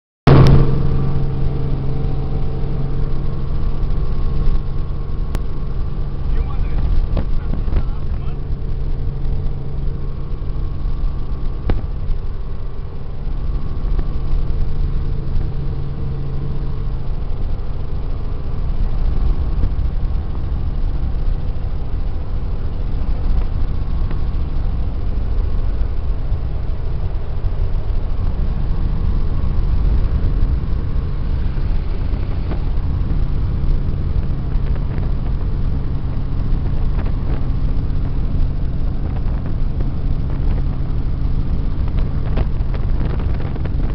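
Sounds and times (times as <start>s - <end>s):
helicopter engine and rotor: 0.6s - 43.9s.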